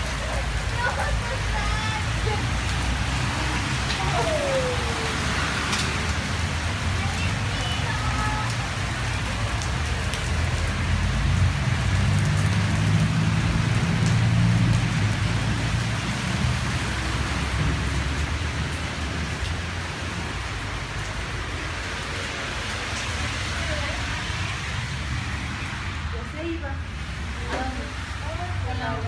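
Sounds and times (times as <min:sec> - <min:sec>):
heavy rain on wet paving: 0:00.0 - 0:29.0.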